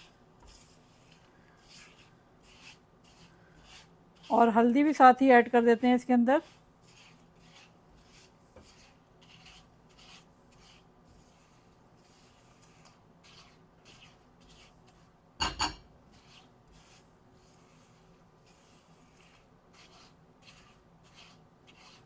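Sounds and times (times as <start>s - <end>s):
spoon scraping pan: 0.0s - 22.0s.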